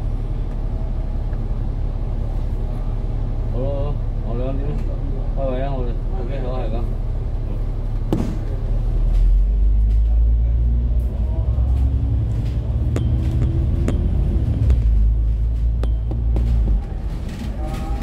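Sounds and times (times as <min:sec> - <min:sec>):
bus engine rumble: 0:00.0 - 0:18.0
road noise: 0:00.0 - 0:18.0.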